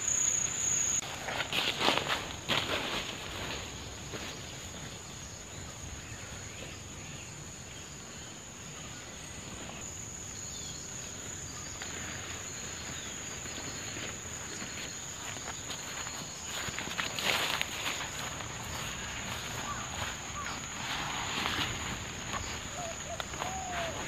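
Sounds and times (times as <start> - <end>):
insects trilling: 0.0 - 24.0
footsteps rustling through undergrowth: 1.0 - 7.2, 8.9 - 24.0.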